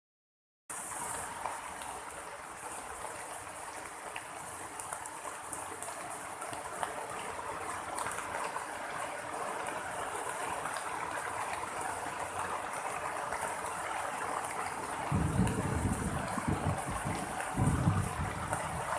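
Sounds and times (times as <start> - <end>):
steady rain hiss: 0.7 - 18.9.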